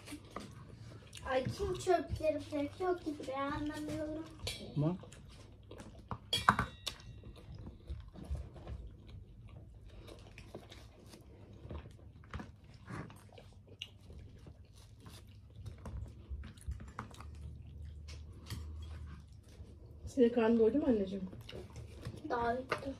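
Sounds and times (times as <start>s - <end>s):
crunchy chewing: 0.0s - 20.1s, 21.2s - 22.9s.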